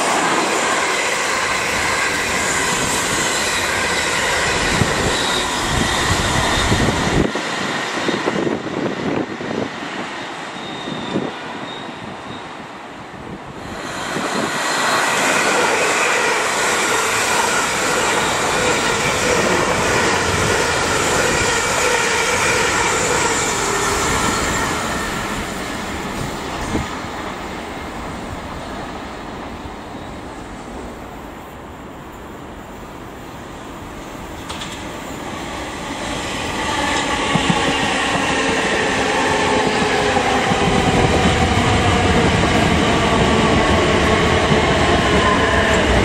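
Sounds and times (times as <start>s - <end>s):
electric train running on track: 0.0s - 46.0s
second electric train passing: 0.0s - 46.0s.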